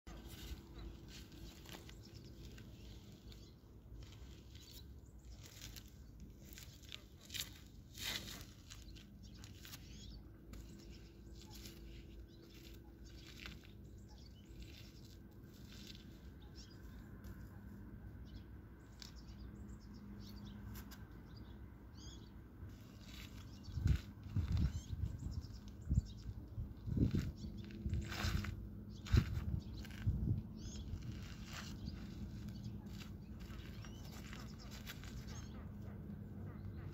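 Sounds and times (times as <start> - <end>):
low outdoor rumble: 0.1 - 36.9
small birds chirping: 0.1 - 36.9.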